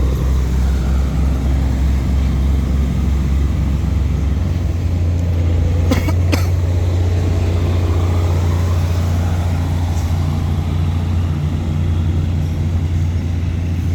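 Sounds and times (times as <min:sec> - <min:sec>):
diesel locomotive engine running: 0:00.0 - 0:13.9.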